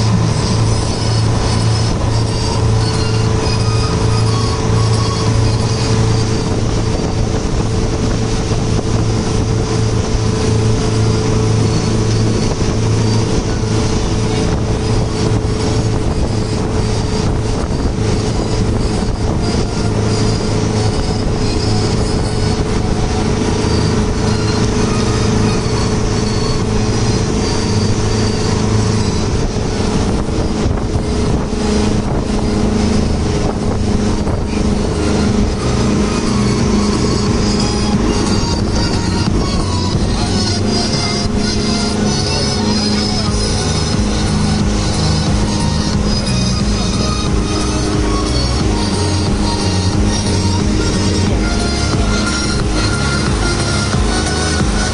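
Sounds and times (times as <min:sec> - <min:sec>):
rushing water: 0:00.0 - 0:54.9
speedboat engine drone: 0:00.0 - 0:54.9
wind: 0:00.0 - 0:54.9.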